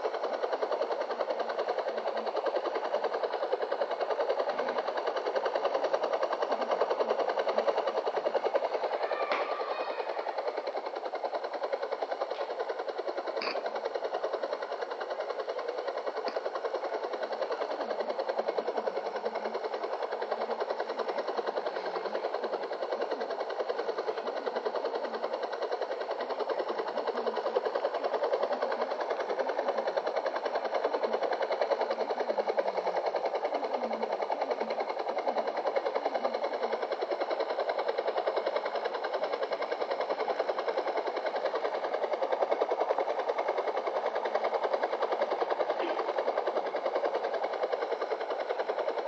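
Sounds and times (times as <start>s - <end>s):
helicopter rotor beating: 0.0s - 49.0s
rapid rhythmic pulsing: 0.0s - 49.0s.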